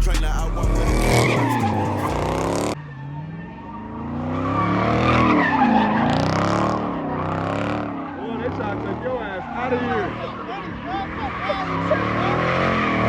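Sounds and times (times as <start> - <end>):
car engine revving: 0.0 - 13.0
tires skidding and squealing: 0.5 - 13.0.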